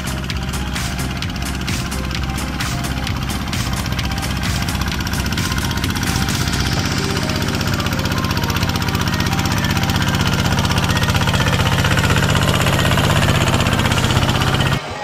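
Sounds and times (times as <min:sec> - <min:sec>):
diesel engine chugging: 0:00.0 - 0:14.9.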